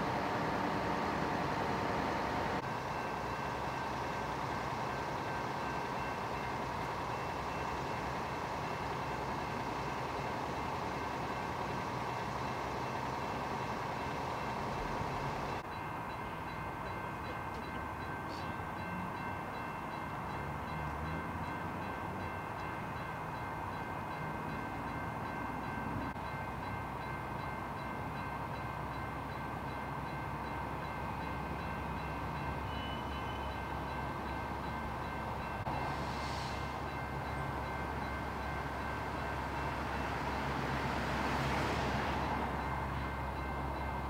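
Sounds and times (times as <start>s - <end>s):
diesel engines idling: 0.0s - 44.0s
crossing signal bell ticking: 0.4s - 36.0s, 36.7s - 41.4s, 42.1s - 44.0s.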